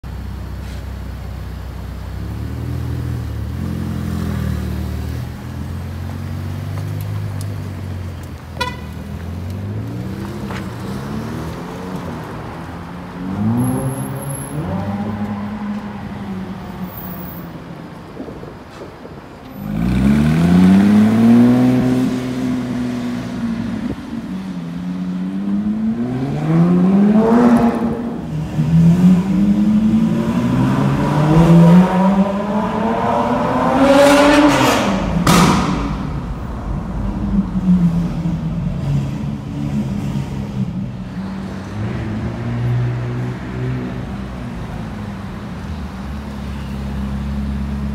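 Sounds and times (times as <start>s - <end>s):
car engines revving and accelerating: 1.6s - 47.9s.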